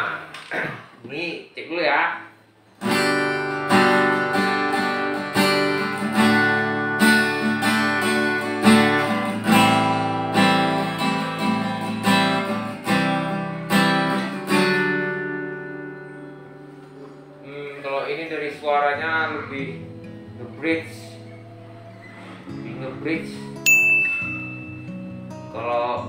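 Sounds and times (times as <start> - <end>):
acoustic guitar strumming: 2.8 - 26.0.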